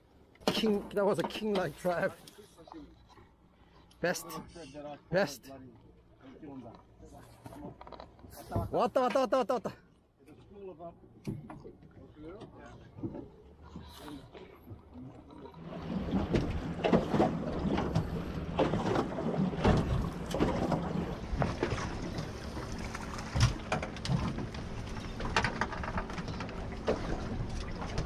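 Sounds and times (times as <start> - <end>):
knocks and clatter on a boat: 0.0 - 4.6, 5.7 - 9.4, 10.2 - 28.0.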